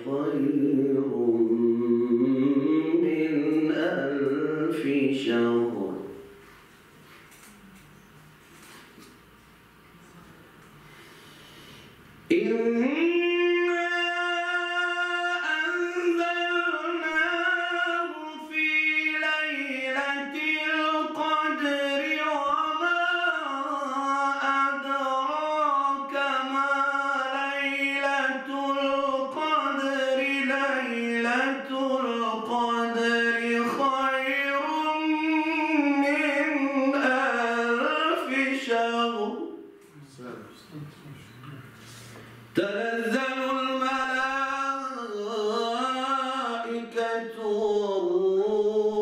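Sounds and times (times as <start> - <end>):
man reciting melodically: 0.0 - 6.4, 12.3 - 49.0.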